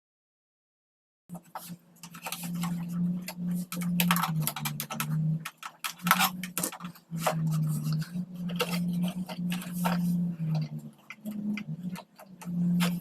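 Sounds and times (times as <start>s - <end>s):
plastic clicks and clatter: 1.3s - 13.0s
toy tank motor humming: 1.3s - 13.0s.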